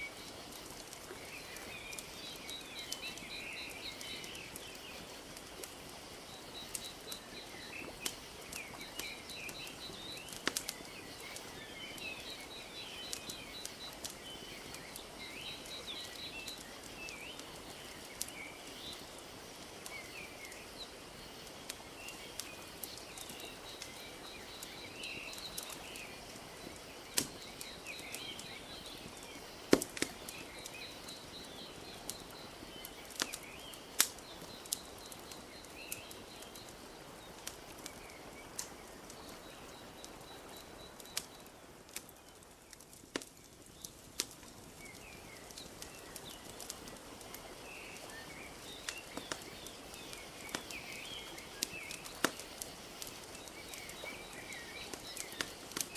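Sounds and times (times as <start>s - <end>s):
birds chirping: 0.0s - 55.9s
wood fire crackling and popping: 0.0s - 55.9s.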